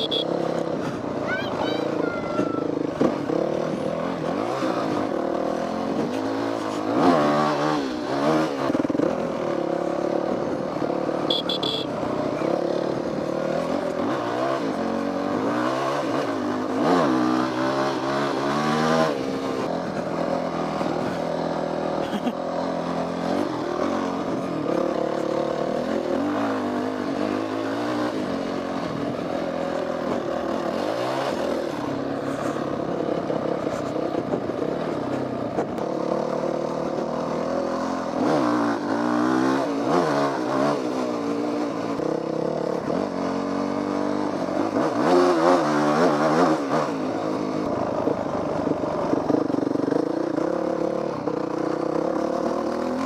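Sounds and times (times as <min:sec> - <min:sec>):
dirt bike engine revving: 0:00.0 - 0:02.0, 0:02.6 - 0:35.0, 0:35.6 - 0:53.0.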